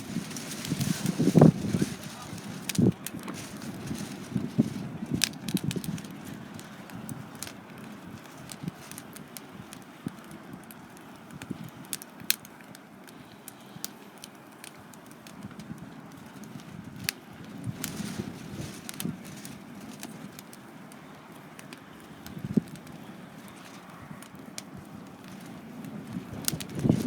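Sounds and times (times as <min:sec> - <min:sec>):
burning wood popping: 0:00.0 - 0:27.0
wood fire crackling: 0:00.0 - 0:27.0.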